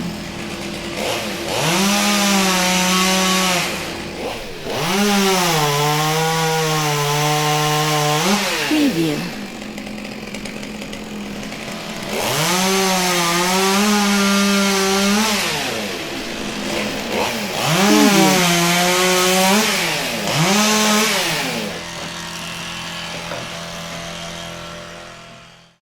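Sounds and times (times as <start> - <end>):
chainsaw revving and idling: 0.0 - 25.6.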